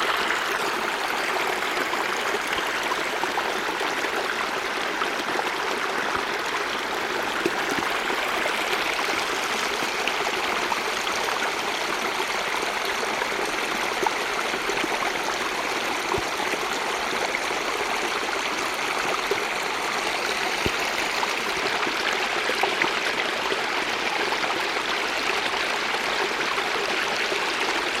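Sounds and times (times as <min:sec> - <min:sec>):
stream flowing with splashes: 0:00.0 - 0:28.0.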